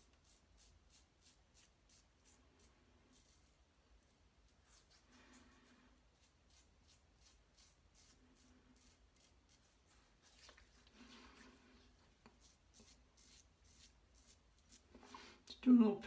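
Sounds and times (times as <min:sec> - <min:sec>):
razor scraping stubble: 0:00.0 - 0:10.9, 0:12.2 - 0:15.2.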